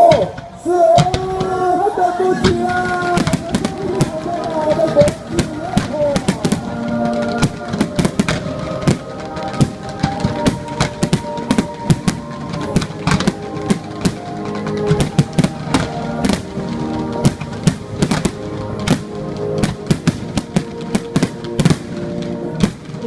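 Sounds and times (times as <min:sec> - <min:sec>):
fireworks bursting: 0:00.0 - 0:23.0
music with loud drums: 0:02.3 - 0:22.0.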